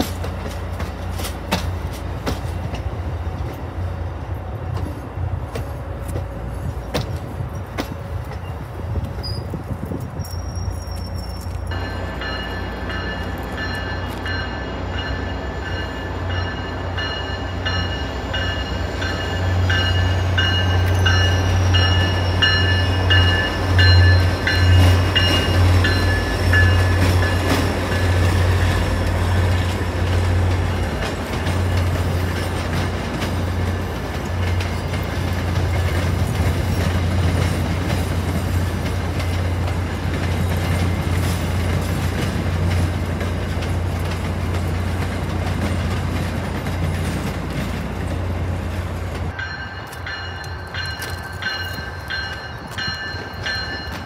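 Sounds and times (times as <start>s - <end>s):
train diesel engine drone: 0.0s - 54.0s
train wheels rolling: 0.0s - 54.0s.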